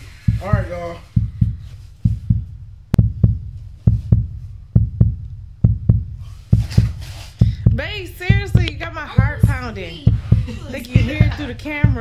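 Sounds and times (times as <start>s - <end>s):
heartbeat thumps: 0.0s - 12.0s.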